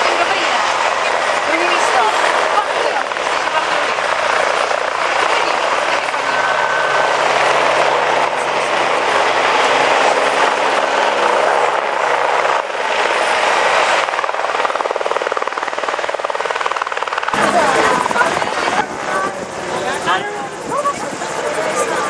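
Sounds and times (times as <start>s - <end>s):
helicopter rotor and turbine roar: 0.0s - 22.0s.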